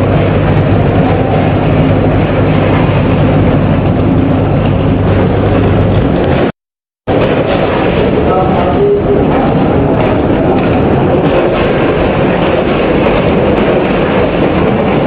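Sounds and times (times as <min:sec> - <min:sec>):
packing machine rumble and hum: 0:00.0 - 0:15.0.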